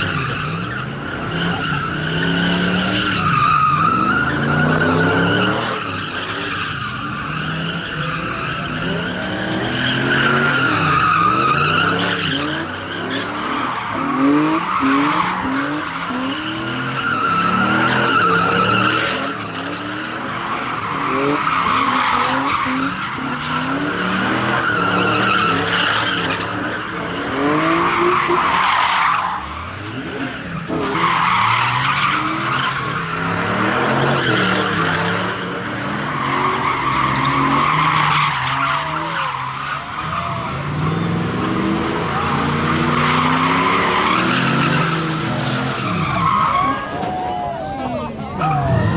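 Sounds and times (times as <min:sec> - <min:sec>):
car engine revving: 0:00.0 - 0:47.0
car tyres squealing: 0:00.0 - 0:48.9.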